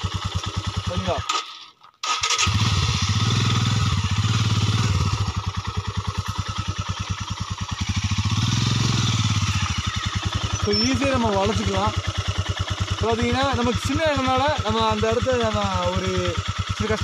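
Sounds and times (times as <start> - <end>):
motorcycle engine running: 0.0 - 1.3, 2.2 - 17.0.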